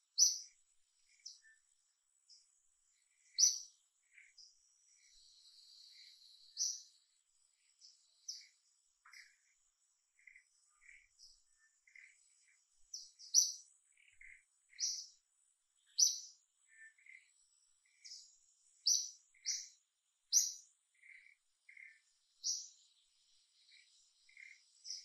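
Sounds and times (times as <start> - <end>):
birds chirping: 0.0 - 25.0
faint high insect whine: 0.1 - 15.2, 15.8 - 25.0.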